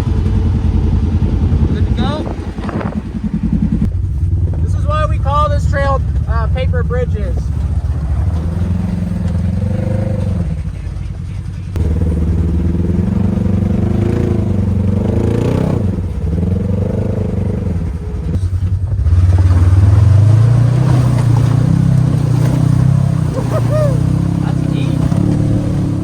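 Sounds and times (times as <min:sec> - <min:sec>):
utv engine revving: 0:00.0 - 0:26.0.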